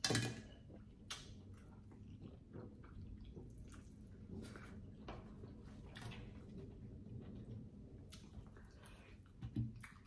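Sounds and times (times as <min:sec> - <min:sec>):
faint chewing: 0:00.4 - 0:10.0.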